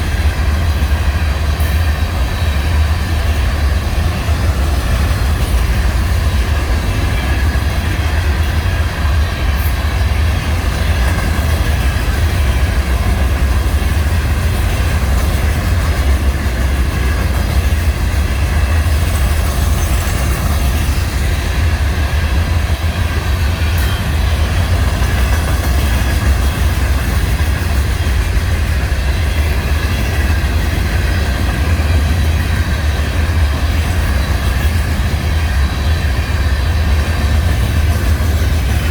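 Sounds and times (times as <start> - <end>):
freight train rumbling past: 0.0 - 38.9
wheels on the track: 0.0 - 38.9.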